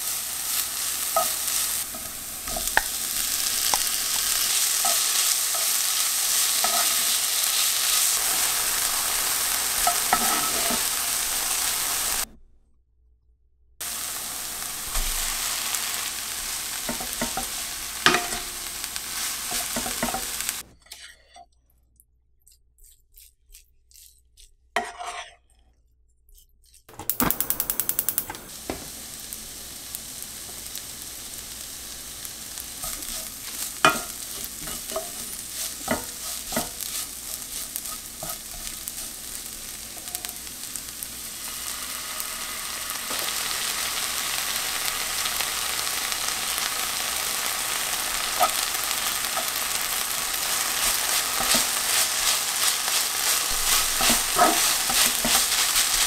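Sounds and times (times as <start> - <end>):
rice sizzling in pan: 0.0 - 12.3, 13.8 - 20.7, 26.9 - 56.0
spatula stirring in pan: 0.0 - 12.3, 13.8 - 21.5, 22.4 - 25.6, 30.4 - 56.0.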